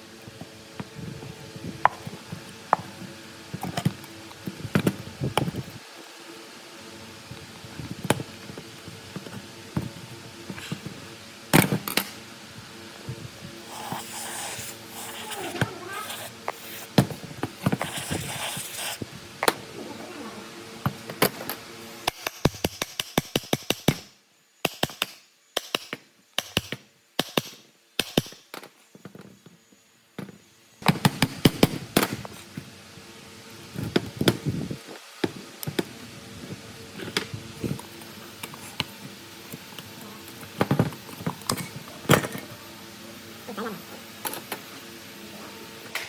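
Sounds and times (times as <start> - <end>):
steady mechanical hum: 0.0 - 24.6, 25.3 - 46.0.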